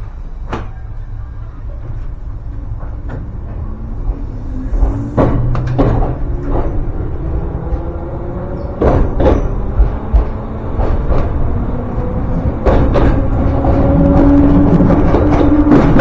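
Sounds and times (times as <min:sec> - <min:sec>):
train low rumble: 0:00.0 - 0:16.0
train motor whine: 0:00.0 - 0:16.0
wheels knocking on track: 0:00.0 - 0:16.0.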